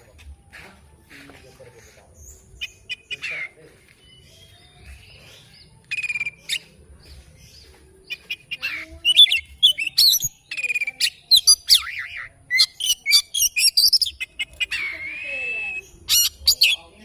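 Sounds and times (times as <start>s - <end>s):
magpie-robin singing: 0.0s - 17.0s.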